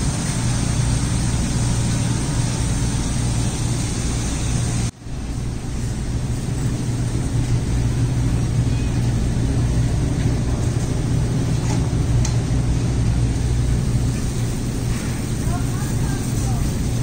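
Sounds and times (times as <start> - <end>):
refrigeration hum: 0.0 - 17.0.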